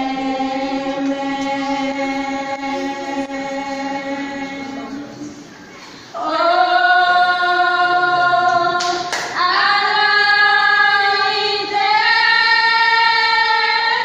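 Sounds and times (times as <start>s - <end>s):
women singing gospel: 0.0s - 14.0s.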